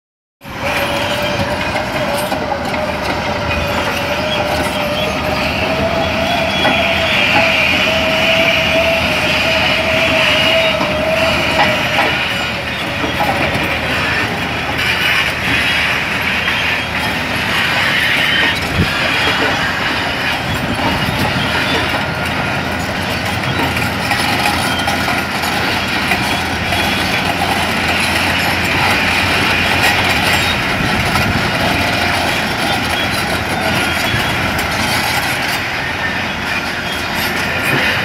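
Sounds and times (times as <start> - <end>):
diesel engine under load: 0.4 - 38.0
steady whine: 0.4 - 38.0
steel tracks clanking and squealing: 0.4 - 38.0.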